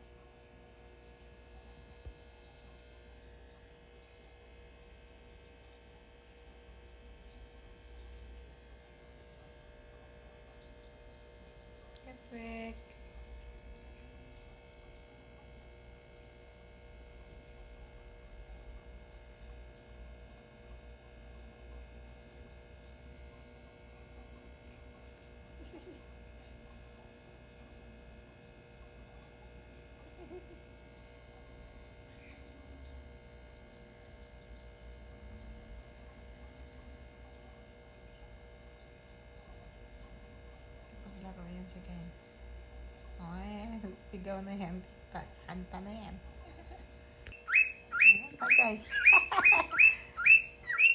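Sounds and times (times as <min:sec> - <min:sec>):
steady electrical hum: 0:00.0 - 0:50.9.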